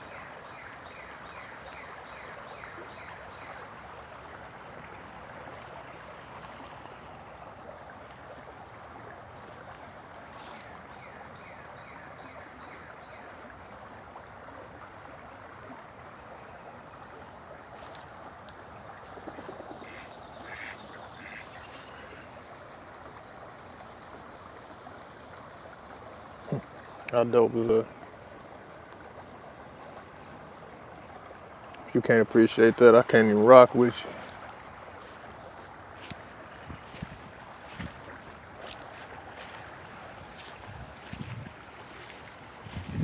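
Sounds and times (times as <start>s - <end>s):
running water rushing: 0.0s - 43.0s.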